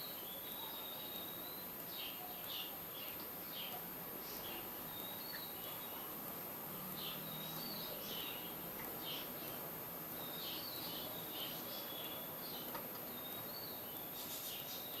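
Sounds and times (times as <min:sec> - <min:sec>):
background hiss: 0:00.0 - 0:15.0
small birds chirping: 0:00.0 - 0:15.0.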